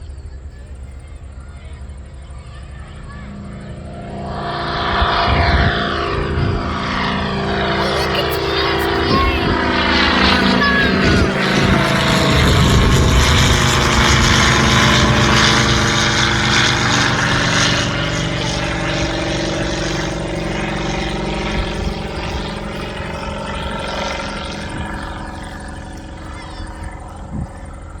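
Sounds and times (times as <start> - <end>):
light aircraft engine and propeller: 0.0 - 7.8, 8.5 - 28.0.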